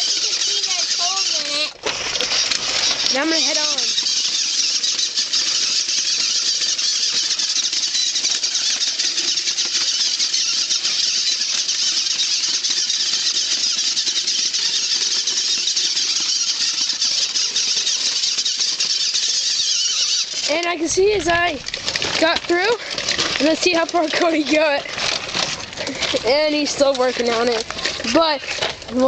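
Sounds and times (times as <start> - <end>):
electric motor and gears: 0.0 - 29.0
tyres grinding on stone: 0.0 - 29.0.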